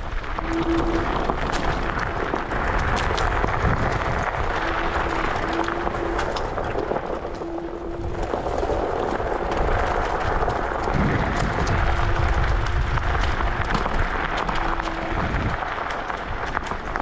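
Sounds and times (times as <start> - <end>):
faint steady hum: 0.0 - 17.0
tyre rumble: 0.0 - 17.0
wind buffeting camera: 0.0 - 17.0.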